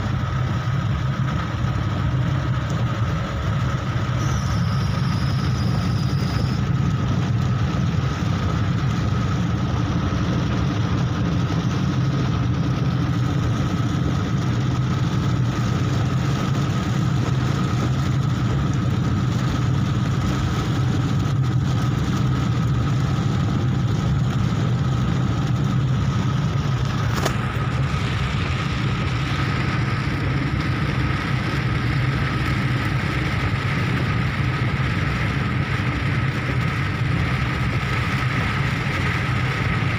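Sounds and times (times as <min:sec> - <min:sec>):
engine and tyre hum: 0:00.0 - 0:39.9
rain and wet road hiss: 0:00.0 - 0:39.9.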